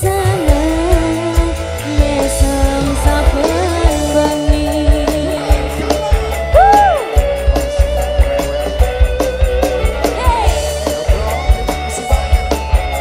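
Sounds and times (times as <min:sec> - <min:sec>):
bass: 0:00.0 - 0:13.0
steady drum beat: 0:00.0 - 0:13.0.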